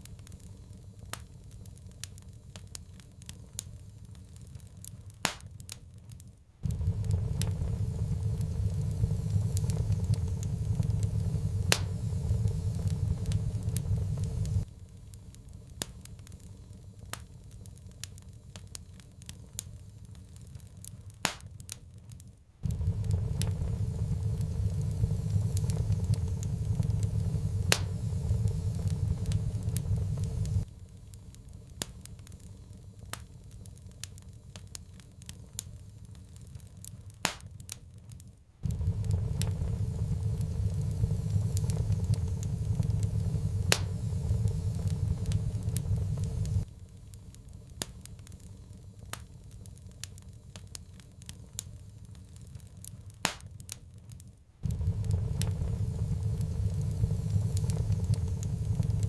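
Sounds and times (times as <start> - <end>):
low rumble of burning fire: 0.0 - 59.0
sharp pops and snaps: 0.0 - 59.0
wood fire crackling: 0.0 - 59.0.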